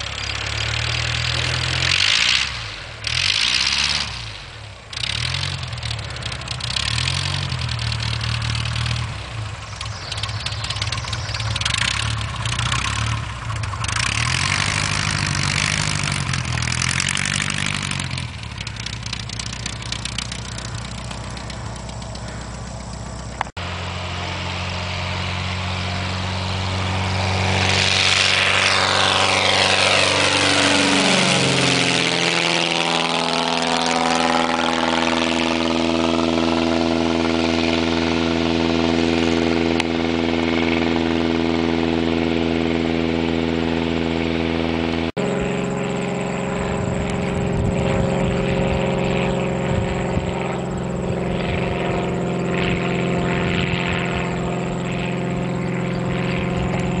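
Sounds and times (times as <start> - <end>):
propeller airplane engine droning: 0.0 - 57.0.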